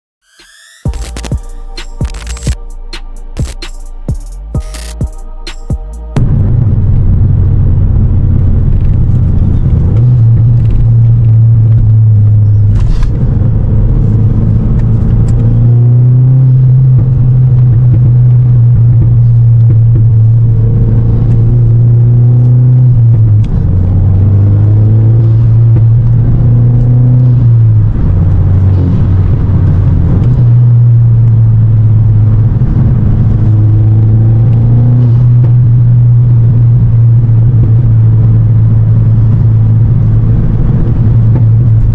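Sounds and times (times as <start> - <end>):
car engine drone in cabin: 0.4 - 41.9.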